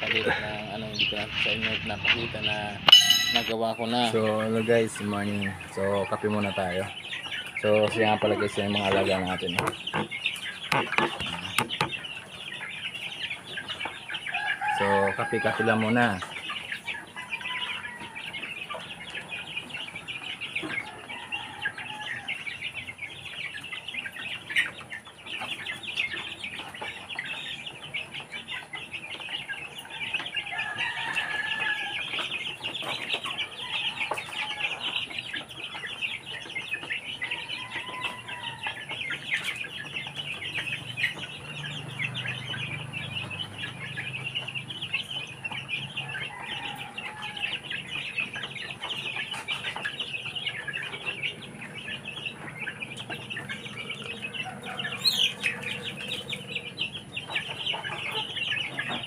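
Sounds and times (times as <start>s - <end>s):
chicks peeping: 0.0s - 59.0s
hens clucking: 0.0s - 59.0s.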